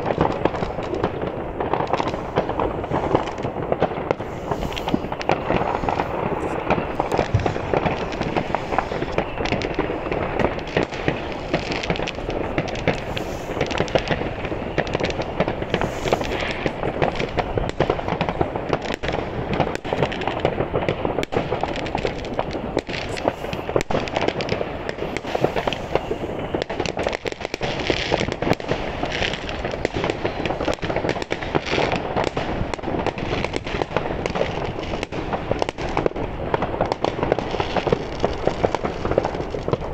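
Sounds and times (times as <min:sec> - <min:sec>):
fireworks and firecrackers crackling: 0:00.0 - 0:39.9.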